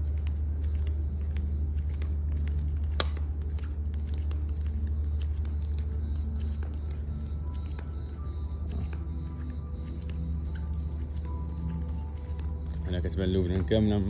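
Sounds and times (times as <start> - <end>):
steady low rumble: 0.0 - 13.6.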